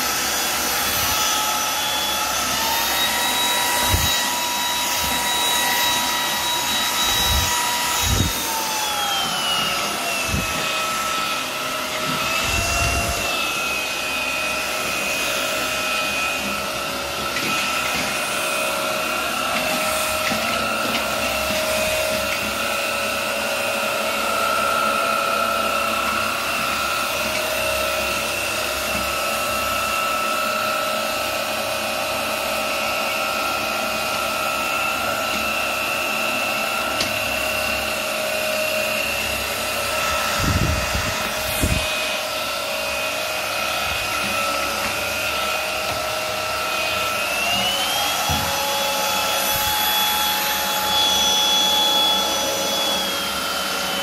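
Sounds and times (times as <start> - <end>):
vacuum cleaner whining: 0.0 - 54.0.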